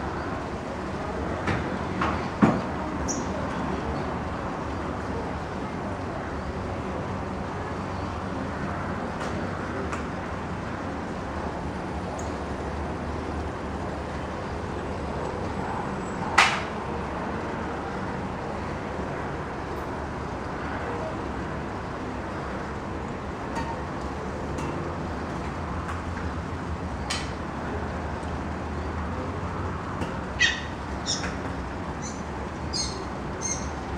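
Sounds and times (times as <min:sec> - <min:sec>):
distant road traffic hum: 0:00.0 - 0:33.9.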